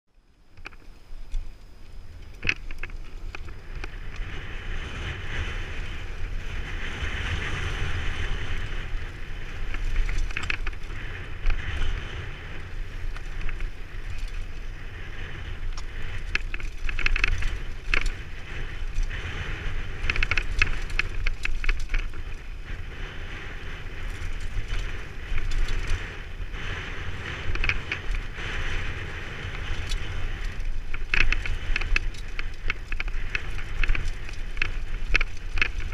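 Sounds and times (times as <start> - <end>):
bike tyres rolling over stones: 0.1 - 35.9
wind rush on microphone: 0.4 - 35.9
bike rattling over rocks: 0.5 - 35.9.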